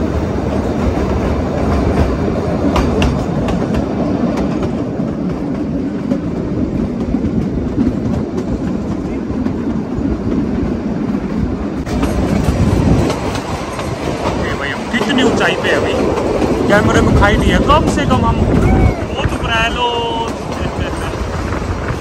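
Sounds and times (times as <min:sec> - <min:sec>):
train rumbling: 0:00.0 - 0:22.0
wheels clicking over rail joints: 0:00.0 - 0:22.0.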